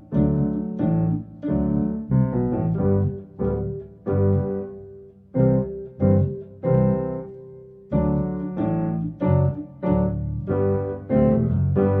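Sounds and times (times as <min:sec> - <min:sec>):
piano notes and chords: 0:00.0 - 0:12.0.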